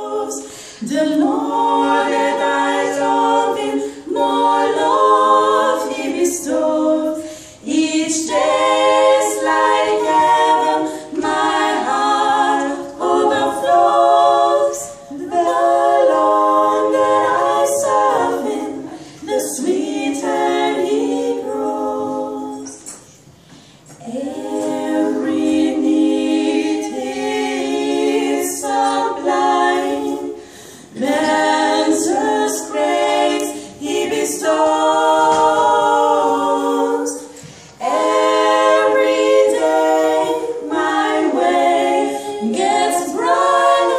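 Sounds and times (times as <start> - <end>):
women singing unaccompanied: 0.0 - 23.1, 24.0 - 43.9.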